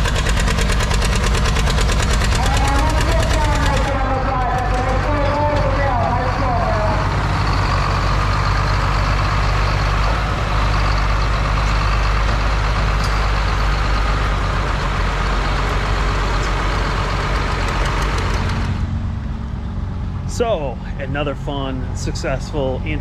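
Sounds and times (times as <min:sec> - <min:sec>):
tractor engine running hard: 0:00.0 - 0:23.0.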